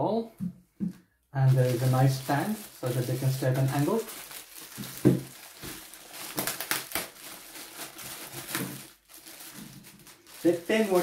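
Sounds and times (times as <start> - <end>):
plastic bag crinkling: 1.4 - 11.0.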